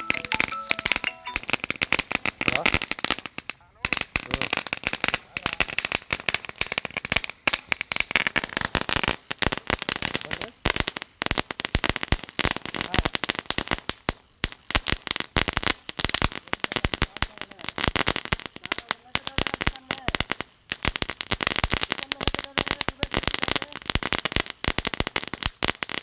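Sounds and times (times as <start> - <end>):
firecrackers cracking: 0.0 - 26.0.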